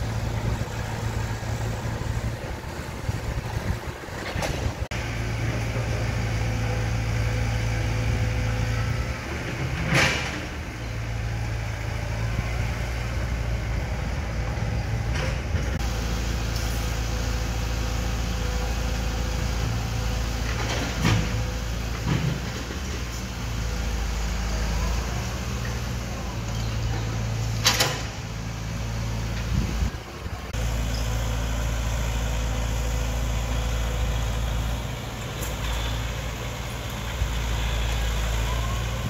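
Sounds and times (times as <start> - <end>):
diesel engine humming: 0.0 - 39.0.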